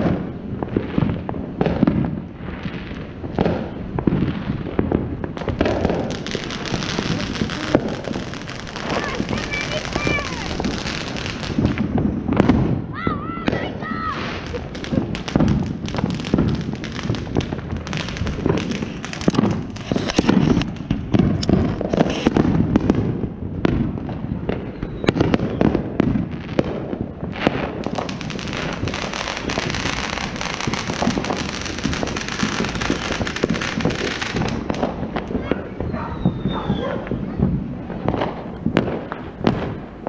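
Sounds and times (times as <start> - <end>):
dense fireworks hiss: 0.0 - 40.0
fireworks popping and banging: 0.0 - 40.0.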